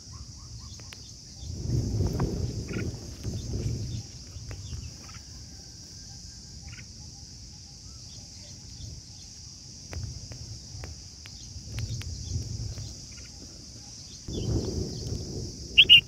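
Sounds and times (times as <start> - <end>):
faint bird chirps: 0.0 - 1.6, 2.6 - 9.6, 11.4 - 16.0
high-pitched insect drone: 0.0 - 16.0.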